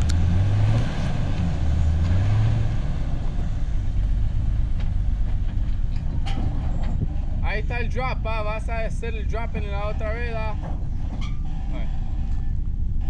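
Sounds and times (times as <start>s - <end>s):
engine working under load: 0.0s - 13.0s.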